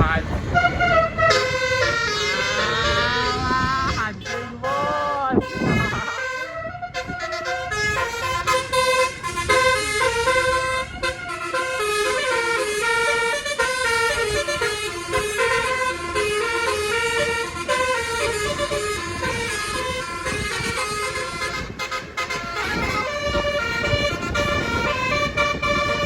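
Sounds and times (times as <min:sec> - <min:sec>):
bus horn playing a fast tune: 0:00.0 - 0:26.0.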